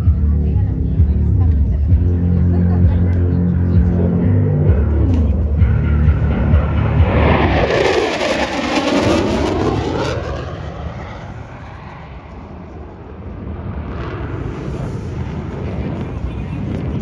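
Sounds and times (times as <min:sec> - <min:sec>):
jet passing low and fast: 0:00.8 - 0:17.0.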